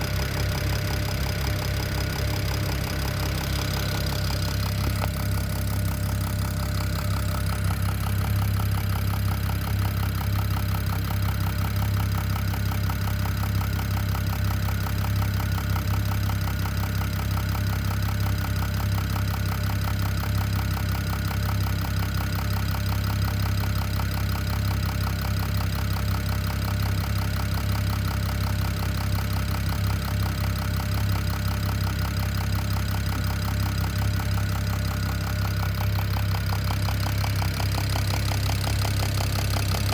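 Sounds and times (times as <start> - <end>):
engine running: 0.0 - 39.9
rapid even engine knocking: 0.0 - 39.9.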